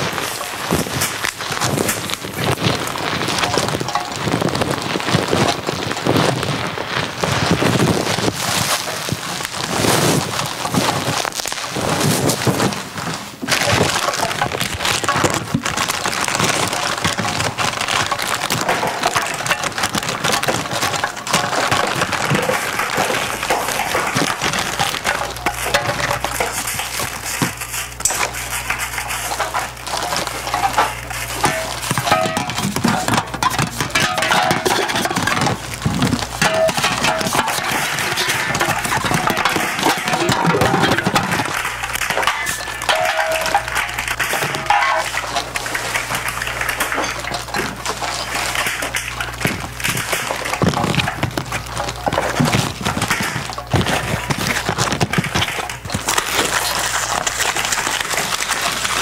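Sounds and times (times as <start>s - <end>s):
low steady hum: 0.0s - 59.0s
plastic and paper crinkling: 0.0s - 59.0s.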